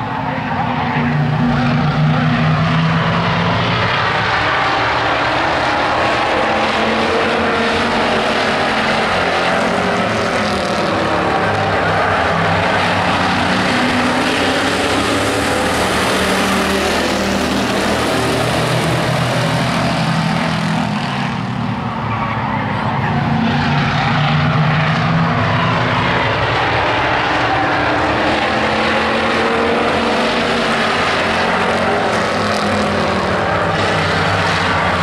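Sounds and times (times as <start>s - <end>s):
pickup truck engines racing: 0.0s - 35.0s.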